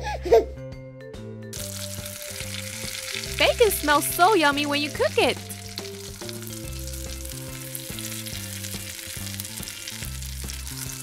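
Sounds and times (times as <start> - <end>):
soft background music: 0.0 - 11.0
bacon sizzling: 1.5 - 11.0.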